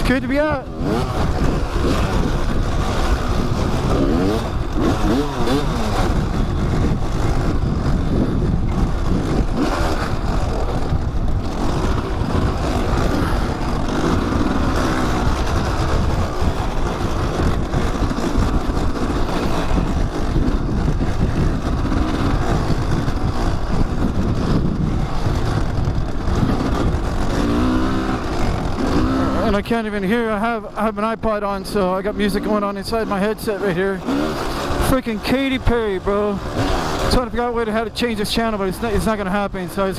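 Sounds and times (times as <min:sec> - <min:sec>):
dirt bike engine: 0:00.0 - 0:39.9
wind noise on microphone: 0:00.0 - 0:39.9.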